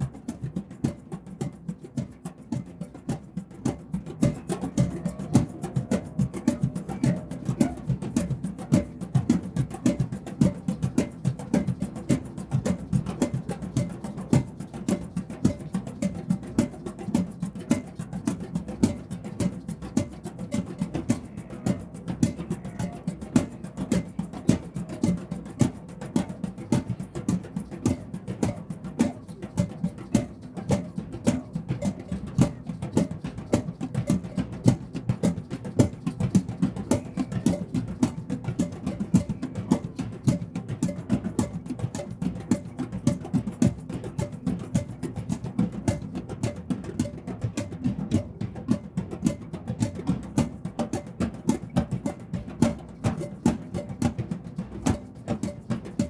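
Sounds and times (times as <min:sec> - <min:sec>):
hand drums playing rhythm: 0:00.0 - 0:56.0.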